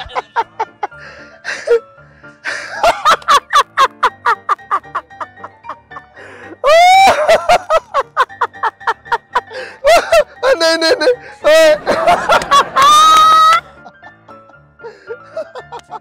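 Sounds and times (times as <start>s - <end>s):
man laughing loudly: 0.0s - 1.0s, 2.5s - 6.0s, 6.6s - 14.5s, 15.1s - 16.0s
background music: 0.0s - 16.0s.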